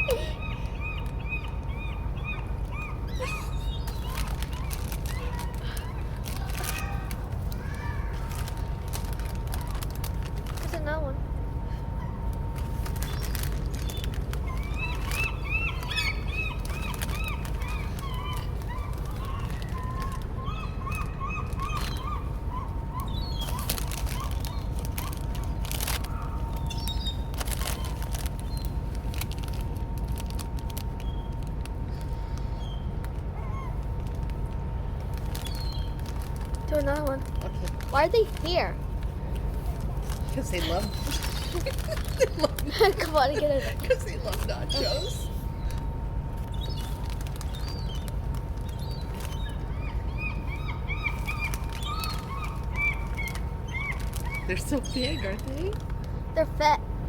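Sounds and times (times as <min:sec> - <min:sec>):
seagulls calling: 0:00.0 - 0:10.9, 0:11.5 - 0:30.0, 0:30.9 - 0:34.3, 0:34.9 - 0:56.6
steady low rumble: 0:00.0 - 0:57.0.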